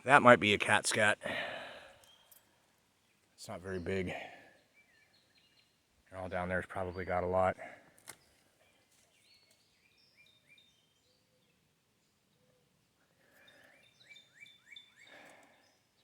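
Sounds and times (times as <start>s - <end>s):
faint bird song: 0.0s - 16.0s.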